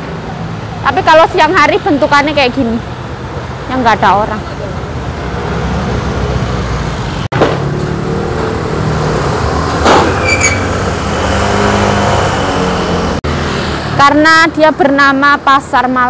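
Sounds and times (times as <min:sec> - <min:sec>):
car engines passing: 0:00.0 - 0:15.9
motor scooter engines passing: 0:00.0 - 0:16.0.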